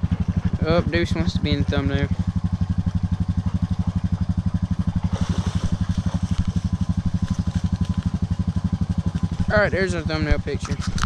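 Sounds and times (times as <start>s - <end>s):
atv engine idling: 0.0s - 11.0s.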